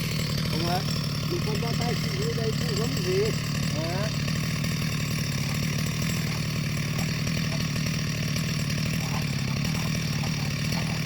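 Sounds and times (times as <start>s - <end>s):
chainsaw cutting timber: 0.0s - 11.0s.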